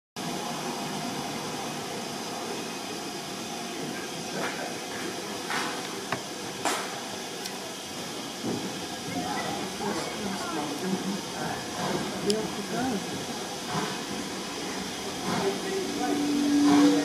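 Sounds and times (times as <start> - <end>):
steam hissing: 0.2 - 17.0.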